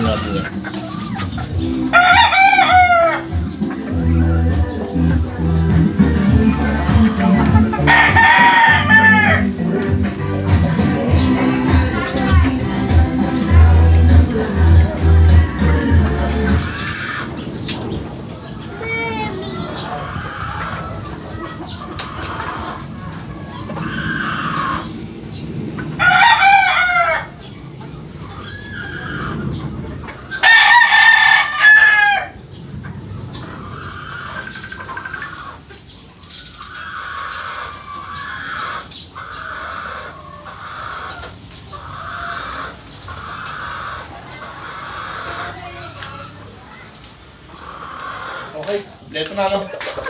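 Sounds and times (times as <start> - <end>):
roosters crowing: 0.0 - 50.0.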